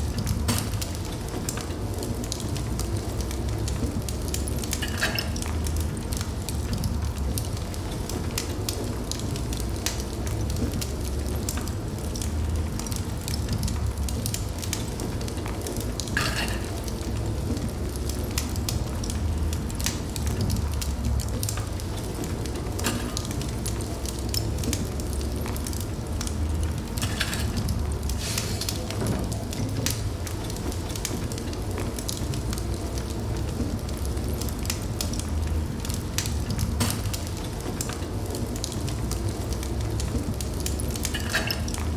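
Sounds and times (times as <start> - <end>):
fire popping and crackling: 0.0 - 41.9
wood fire rumbling: 0.0 - 41.9.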